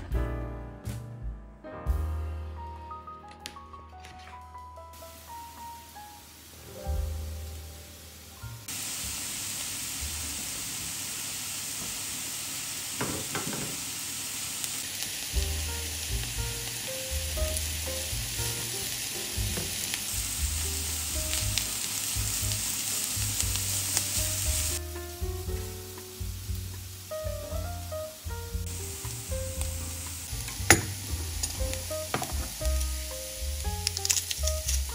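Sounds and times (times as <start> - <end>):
vegetables sizzling in hot oil: 5.0 - 6.7, 7.5 - 34.9.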